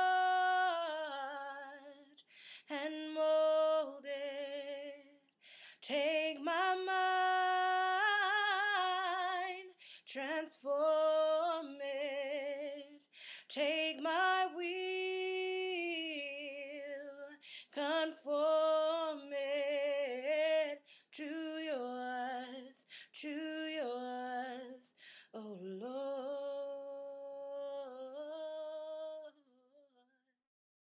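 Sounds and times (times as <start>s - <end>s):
woman singing unaccompanied: 0.0s - 5.2s, 5.8s - 30.0s.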